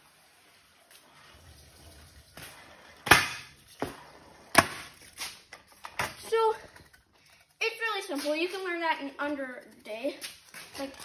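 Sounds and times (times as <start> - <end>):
scooter rolling on concrete: 0.0 - 11.0.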